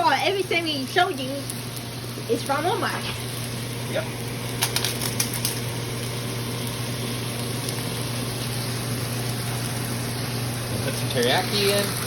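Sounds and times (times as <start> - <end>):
chicken sizzling in a pan: 0.0 - 12.0
constant low hum: 0.0 - 12.0.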